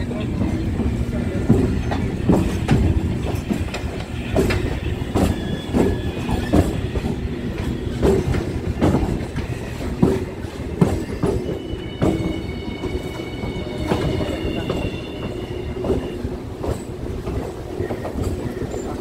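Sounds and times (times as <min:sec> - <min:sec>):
low train rumble: 0:00.0 - 0:19.0
train wheels clacking over rail joints: 0:00.0 - 0:19.0.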